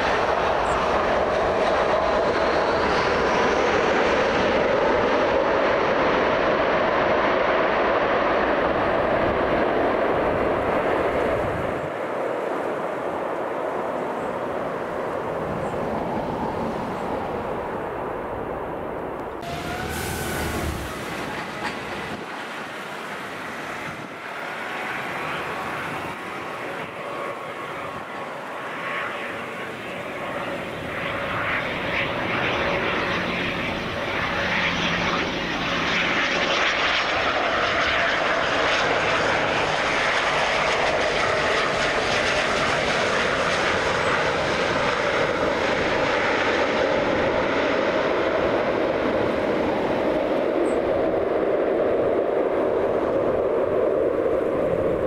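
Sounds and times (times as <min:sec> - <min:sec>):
airliner engines: 0:00.0 - 0:55.0.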